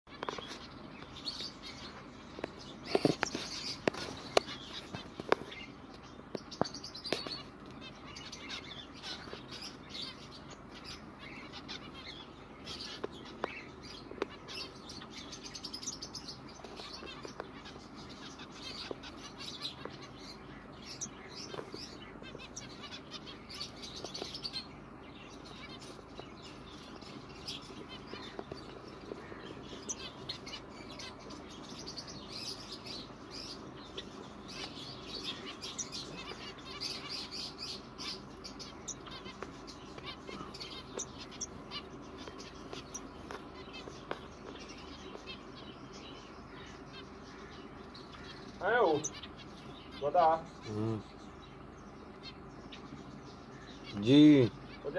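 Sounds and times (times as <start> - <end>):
finches chirping: 0.1 - 54.9.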